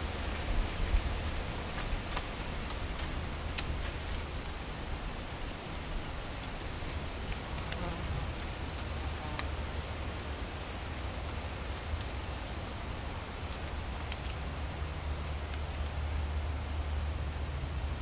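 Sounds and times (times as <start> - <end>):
light ticks of dry leaves: 0.0 - 18.0
wind rustling dry leaves: 0.0 - 18.0.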